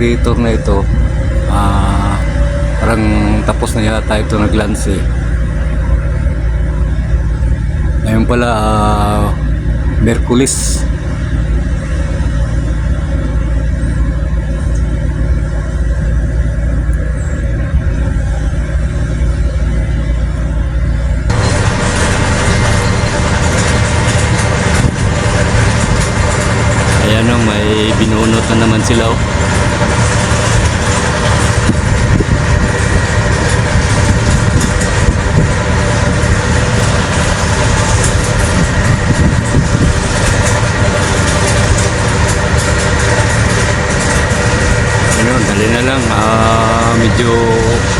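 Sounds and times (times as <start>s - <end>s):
heavy machine engine rumbling: 0.0s - 47.9s.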